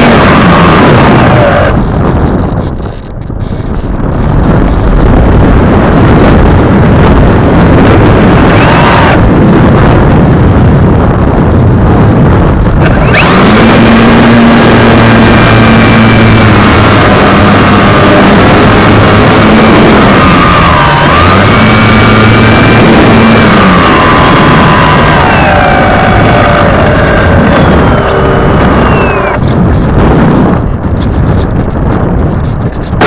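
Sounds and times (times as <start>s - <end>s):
electric motor and propeller whine: 0.0s - 33.0s
wind rush on microphone: 0.0s - 33.0s.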